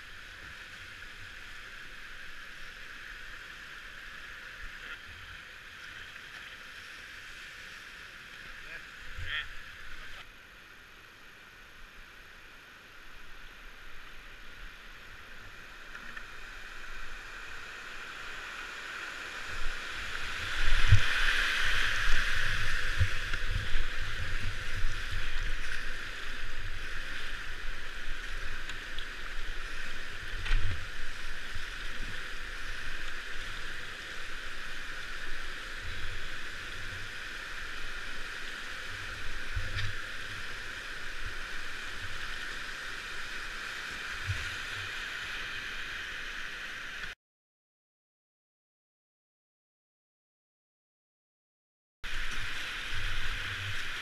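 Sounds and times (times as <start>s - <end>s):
rushing river water: 0.0s - 47.2s, 52.0s - 54.0s.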